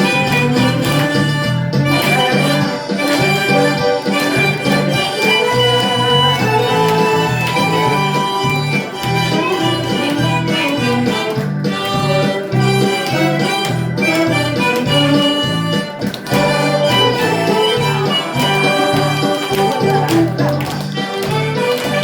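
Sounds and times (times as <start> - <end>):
harmonica melody: 0.0 - 22.0
instrumental accompaniment with bass: 0.0 - 22.0.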